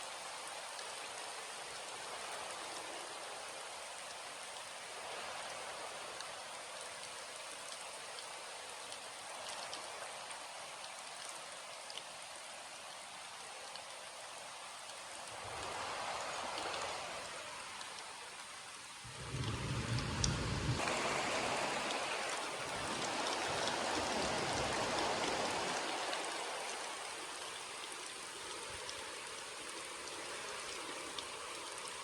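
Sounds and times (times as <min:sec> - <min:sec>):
rain drops ticking: 0:00.0 - 0:32.0
steady rain hiss: 0:00.0 - 0:32.0.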